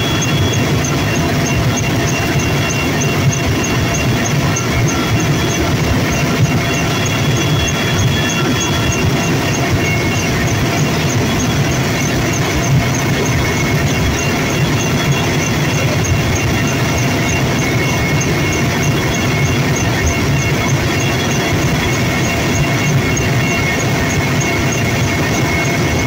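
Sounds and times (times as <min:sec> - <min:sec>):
helicopter engine and rotor noise: 0:00.0 - 0:26.0
high whining tones: 0:00.0 - 0:26.0.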